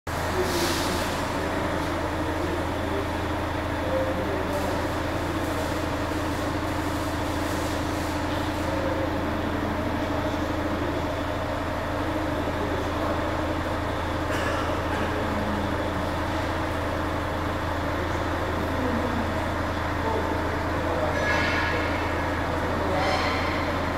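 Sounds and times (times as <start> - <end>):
diesel engine idling: 0.1 - 23.9.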